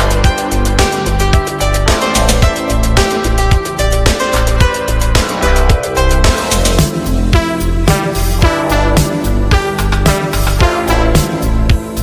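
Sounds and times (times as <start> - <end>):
background music with heavy bass: 0.0 - 12.0.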